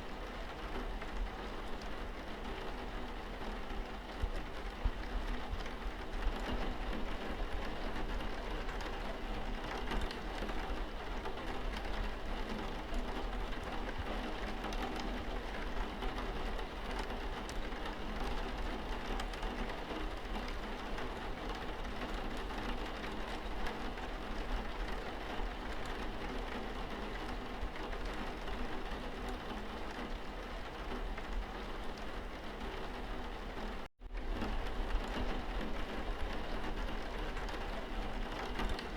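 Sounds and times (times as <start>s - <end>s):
patter of raindrops: 0.0s - 38.9s
steady rain falling: 0.0s - 38.9s.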